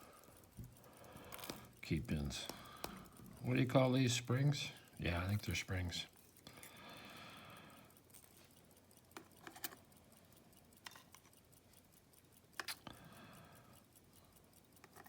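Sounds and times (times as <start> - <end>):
tweezers clicking on metal parts: 0.0 - 15.0.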